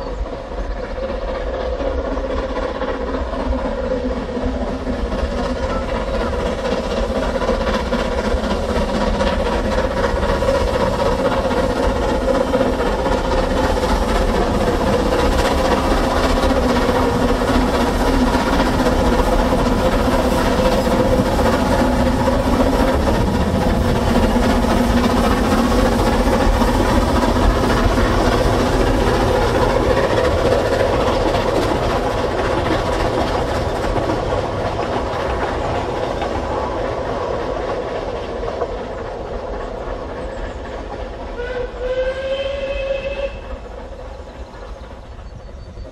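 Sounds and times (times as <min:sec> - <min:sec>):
carriages running on rails: 0:00.0 - 0:45.9
steam locomotive engine rumble: 0:00.0 - 0:45.9.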